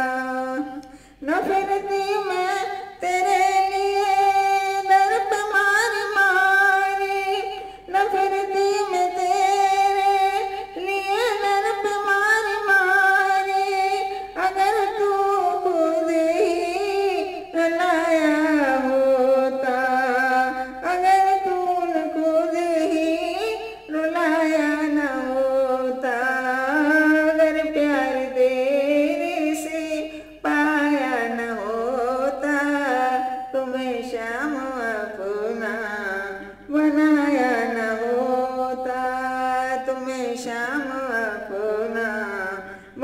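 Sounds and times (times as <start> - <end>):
woman singing into microphone: 0.0 - 43.0.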